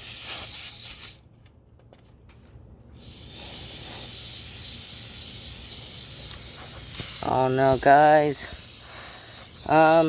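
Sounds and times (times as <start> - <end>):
compressed air hissing from hose: 0.0 - 1.2, 3.0 - 10.0.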